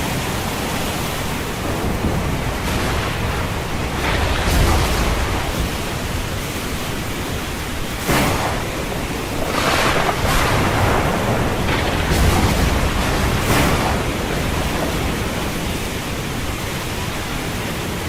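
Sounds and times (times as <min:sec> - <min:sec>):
rush of heavy seas: 0:00.0 - 0:18.0
waves breaking: 0:00.0 - 0:18.0
wind buffeting microphone: 0:00.0 - 0:18.0.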